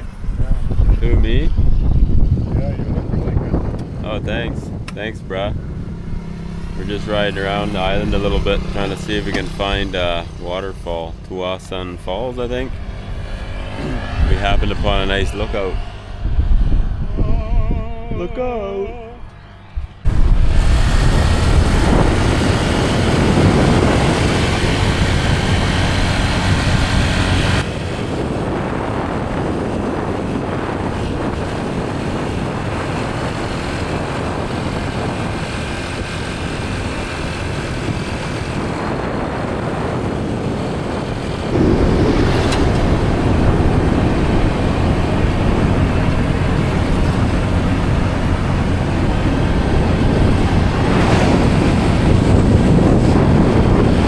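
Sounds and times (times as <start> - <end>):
rushing road noise: 0.0 - 54.0
vehicle motor running: 0.0 - 54.0.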